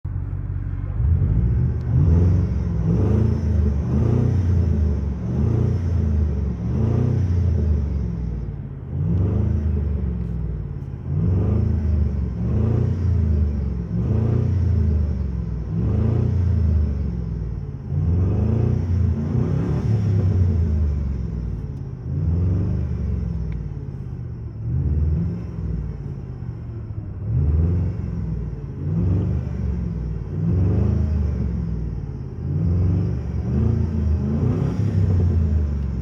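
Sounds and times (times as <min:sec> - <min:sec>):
car engine revving: 0:00.1 - 0:36.0.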